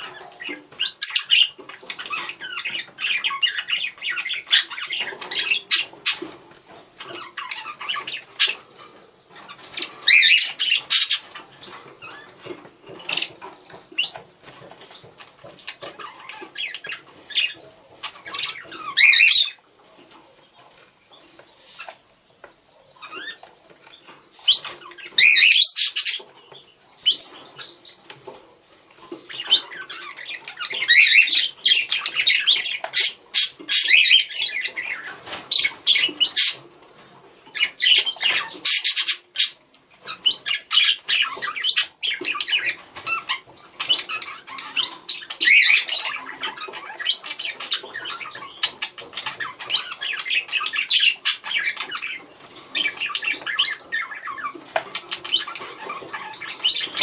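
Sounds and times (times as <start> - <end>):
budgerigars chirping and squawking: 0.0 - 57.0.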